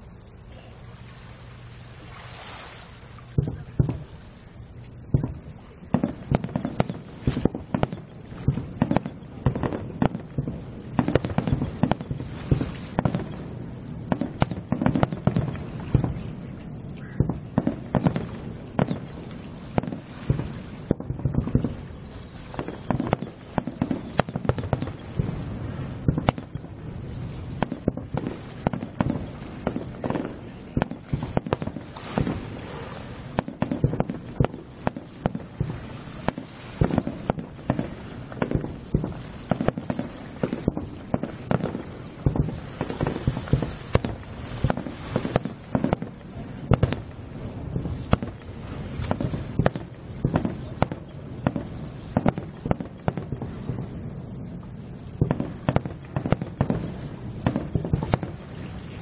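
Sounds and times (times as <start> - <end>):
firework shells bursting: 1.3 - 59.0.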